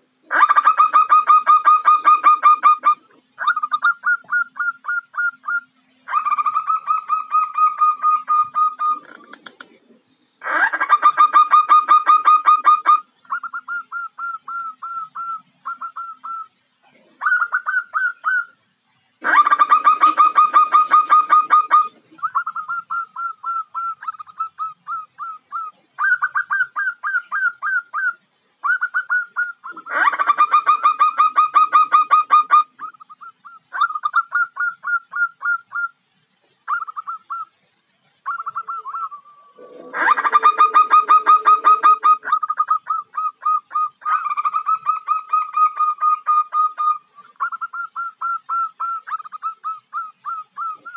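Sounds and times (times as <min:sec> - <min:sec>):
dove staccato cooing: 0:00.0 - 0:18.6, 0:19.2 - 0:36.0, 0:36.6 - 0:50.9.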